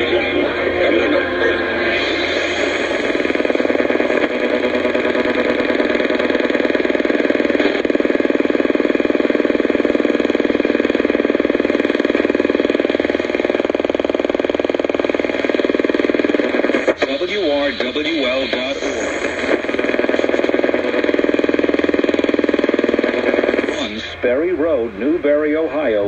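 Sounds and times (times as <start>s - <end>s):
radio buzzing interference: 0.0s - 26.0s.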